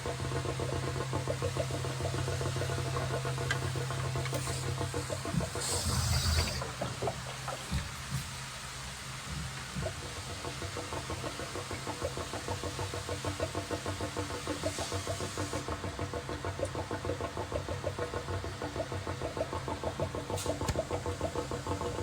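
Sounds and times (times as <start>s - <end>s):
motor knocking rhythmically: 0.0s - 22.0s.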